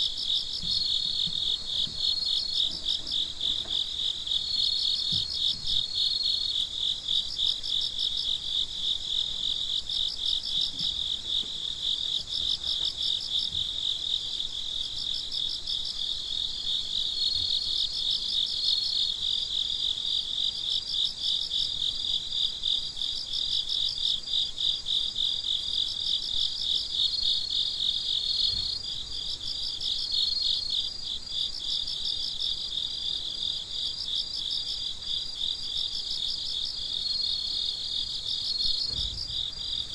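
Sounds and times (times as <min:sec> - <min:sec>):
crickets chirping: 0:00.0 - 0:39.9
steady insect trill: 0:00.0 - 0:39.9.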